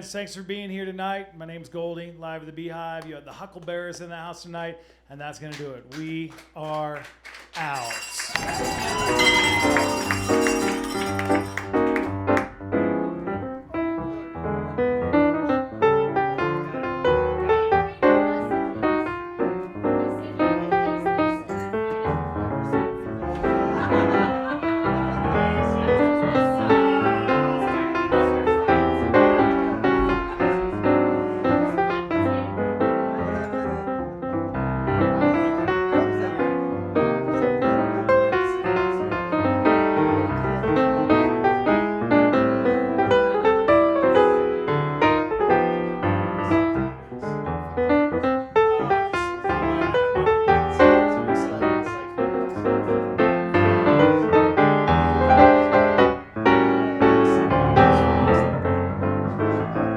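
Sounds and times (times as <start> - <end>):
piano music: 7.8 - 59.9.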